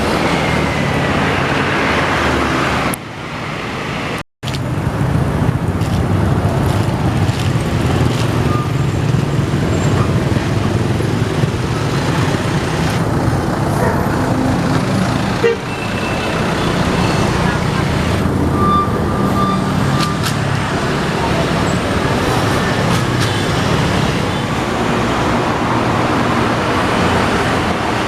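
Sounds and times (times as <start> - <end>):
bus engines: 0.0 - 28.0
rumble of heavy road vehicles: 0.0 - 28.0.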